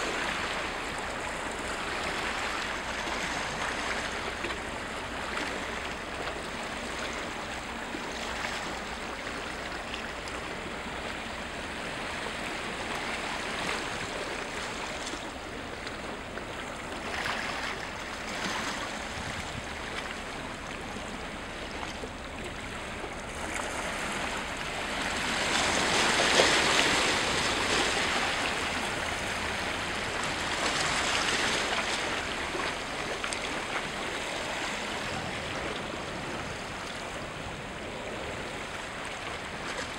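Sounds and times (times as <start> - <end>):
sea water lapping and splashing: 0.0 - 39.9.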